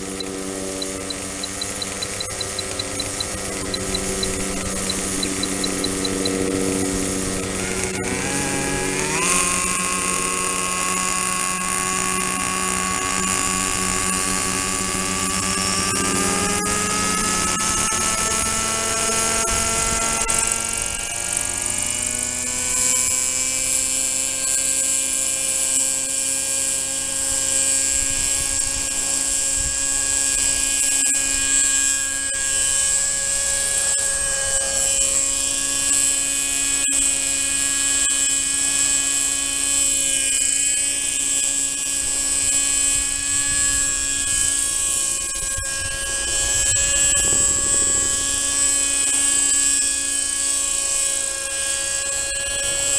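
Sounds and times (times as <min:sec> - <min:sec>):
high-pitched whine: 0:00.0 - 0:52.9
model helicopter engine running: 0:00.0 - 0:52.9.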